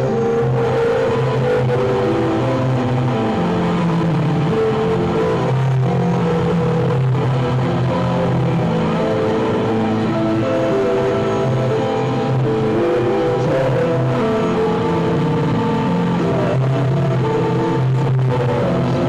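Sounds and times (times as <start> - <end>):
distorted electric guitar metal music: 0.0 - 19.0.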